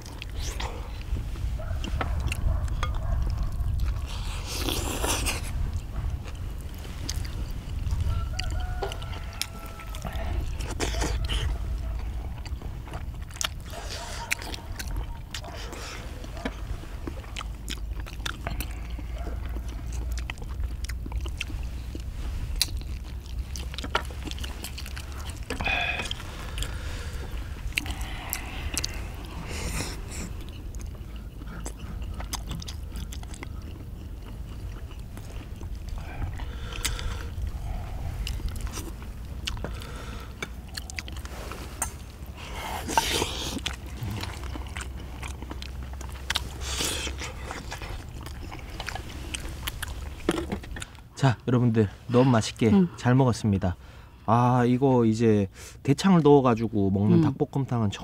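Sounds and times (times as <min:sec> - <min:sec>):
low steady rumble: 0:00.0 - 0:54.8
people chewing food: 0:00.0 - 0:58.0.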